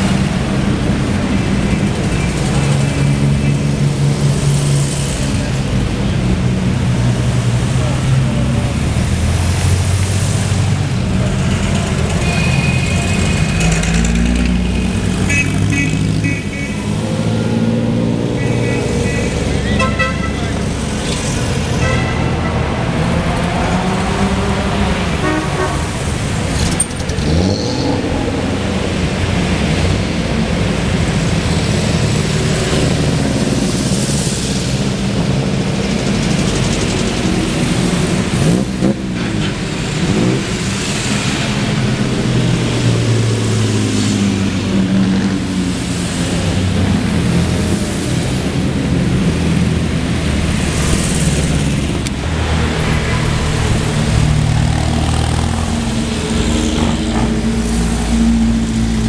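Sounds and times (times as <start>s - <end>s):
sports cars revving past: 0.0s - 59.0s
traffic rumble: 0.0s - 59.0s.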